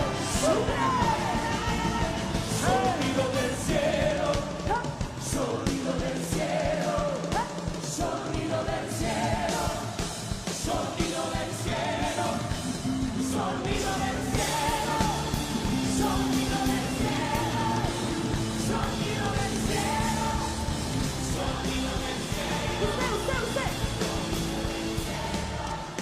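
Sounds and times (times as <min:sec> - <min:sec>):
rock band playing worship song: 0:00.0 - 0:26.0.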